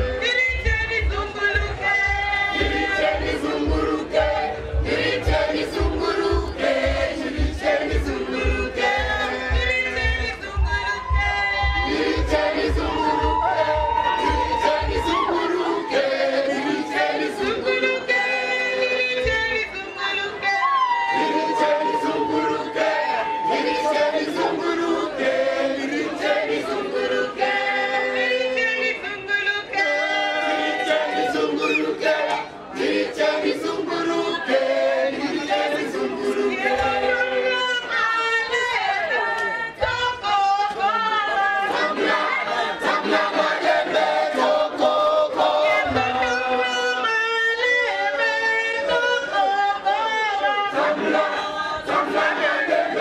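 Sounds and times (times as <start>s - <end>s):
choir singing a hymn: 1.9s - 19.7s, 20.6s - 39.9s, 40.9s - 53.0s.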